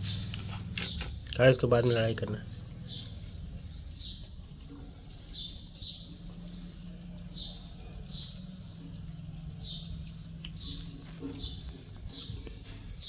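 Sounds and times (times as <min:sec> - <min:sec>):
bird chirping: 0:00.0 - 0:13.0
low background rumble: 0:02.2 - 0:13.0.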